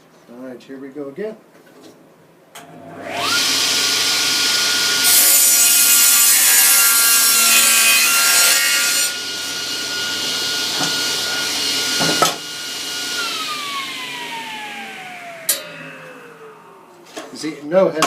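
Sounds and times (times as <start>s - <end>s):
table saw cutting wood: 2.6s - 17.5s.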